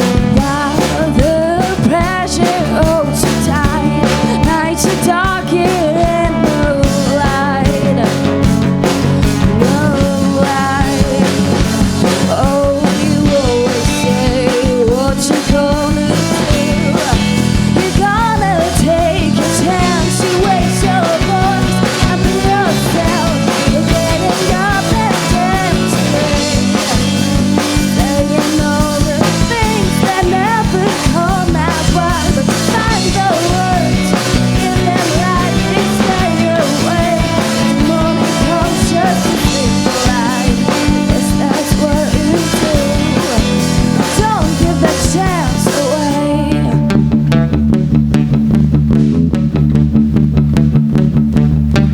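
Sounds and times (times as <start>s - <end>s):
wavering melodic lead line: 0.0s - 48.9s
drum kit beat: 0.0s - 51.9s
rock band playing: 0.0s - 51.9s.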